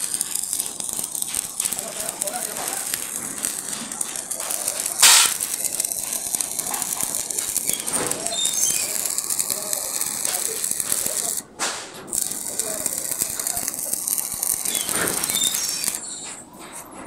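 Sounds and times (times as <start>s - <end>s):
welding arc crackling: 0.0s - 16.5s.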